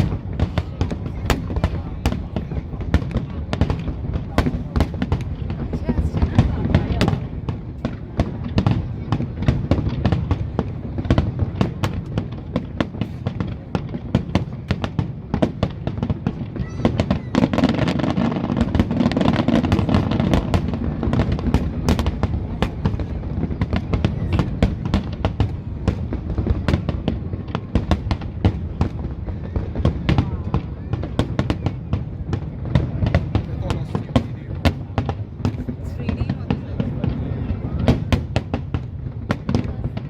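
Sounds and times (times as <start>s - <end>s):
firework booms and cracks: 0.0s - 40.0s
rapid firework crackling: 0.0s - 40.0s.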